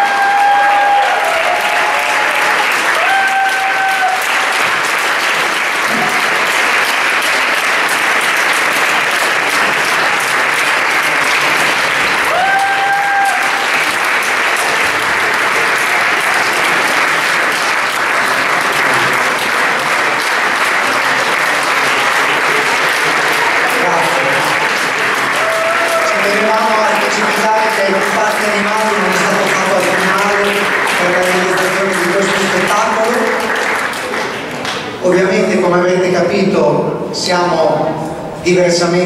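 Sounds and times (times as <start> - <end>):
audience applauding: 0.0 - 35.2.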